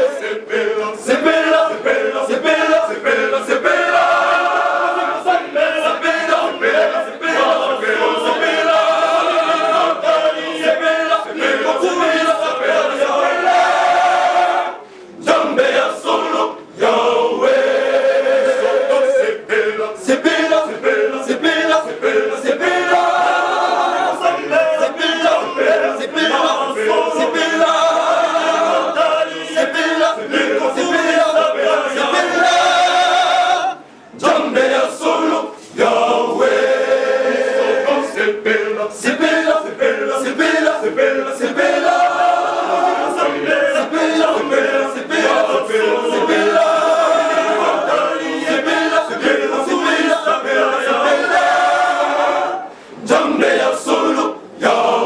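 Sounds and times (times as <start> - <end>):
men's choir singing a cappella: 0.0 - 55.0.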